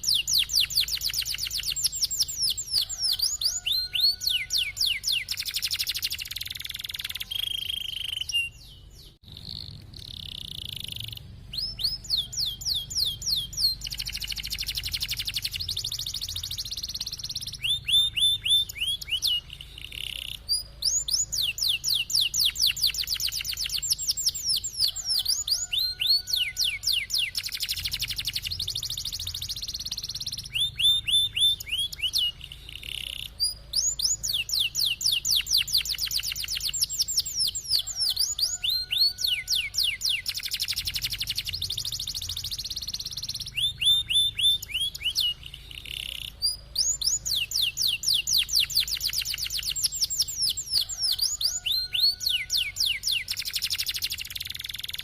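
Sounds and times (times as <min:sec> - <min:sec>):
canary singing in trills: 0:00.0 - 0:55.0.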